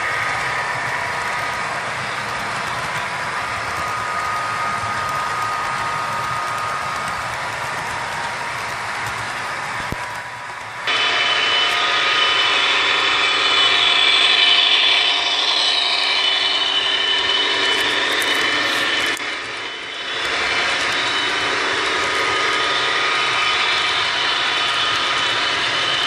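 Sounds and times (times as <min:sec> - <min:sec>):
model train motors whining: 0:00.0 - 0:26.0
wheels rattling on rails: 0:00.0 - 0:26.0.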